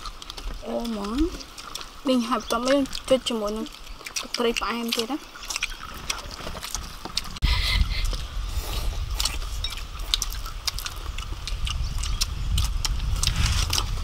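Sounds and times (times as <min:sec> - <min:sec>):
people chewing crunchy food: 0:00.0 - 0:14.0
steady low rumble: 0:00.0 - 0:14.0.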